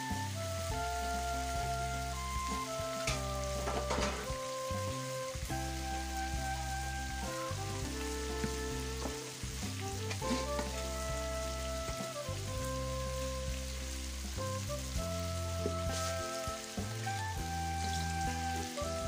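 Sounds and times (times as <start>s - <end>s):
background music sustained notes: 0.0s - 19.0s
fish frying in hot oil: 0.0s - 19.0s.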